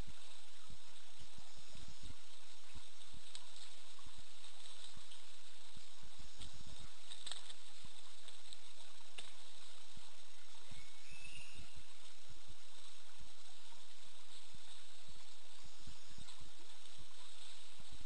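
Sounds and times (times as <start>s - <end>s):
forest stream rushing: 0.0s - 18.0s.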